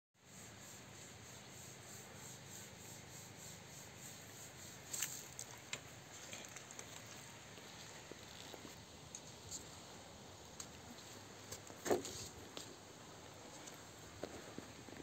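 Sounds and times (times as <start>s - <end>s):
faint outdoor hiss: 0.2s - 15.0s.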